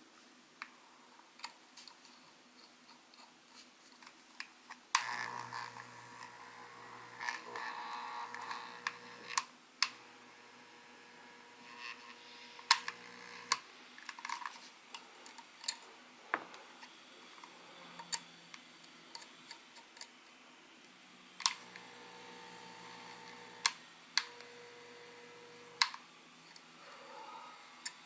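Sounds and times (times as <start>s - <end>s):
faint steady whine: 0.0s - 28.0s.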